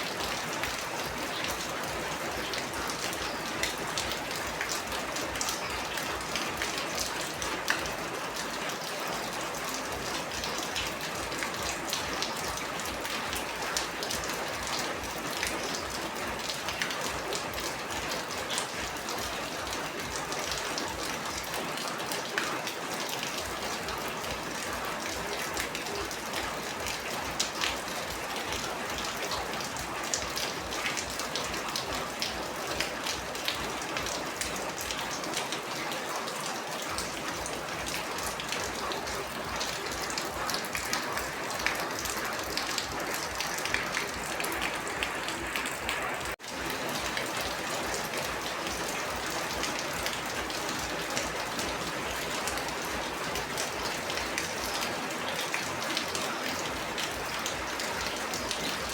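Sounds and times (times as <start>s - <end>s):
rain falling: 0.0s - 58.9s
raindrops ticking: 0.1s - 58.9s.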